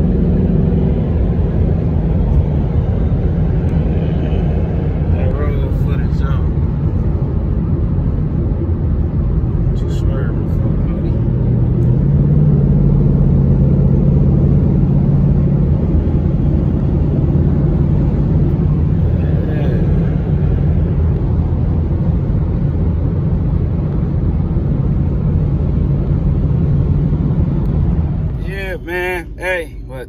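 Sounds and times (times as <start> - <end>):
car engine drone: 0.0 - 30.0
low hum: 0.0 - 30.0
road rumble: 0.0 - 30.0.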